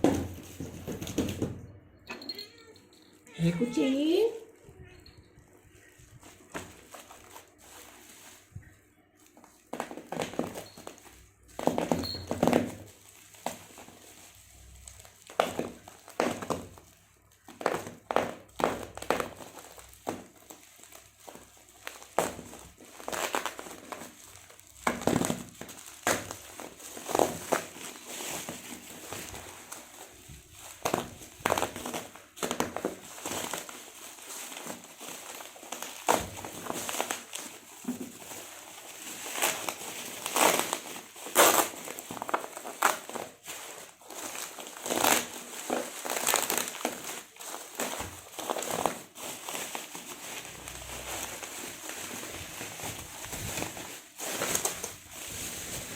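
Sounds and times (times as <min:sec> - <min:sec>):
packaging crinkling and rustling: 0:00.0 - 0:01.8, 0:02.6 - 0:55.9.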